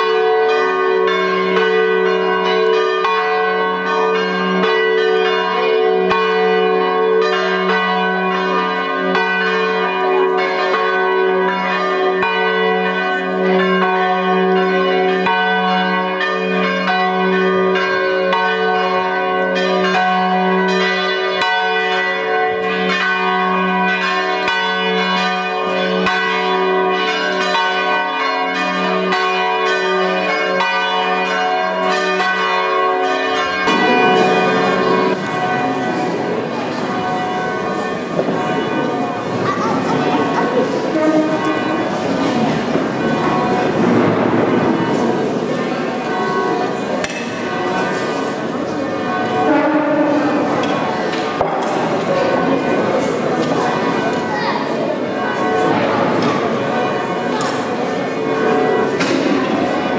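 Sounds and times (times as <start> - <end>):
church bells ringing a peal: 0.0 - 59.9.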